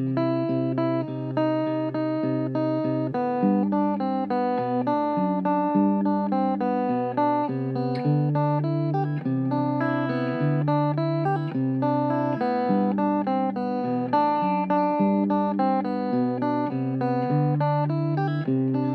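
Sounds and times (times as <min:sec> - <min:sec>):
strummed guitar music: 0:00.0 - 0:18.9.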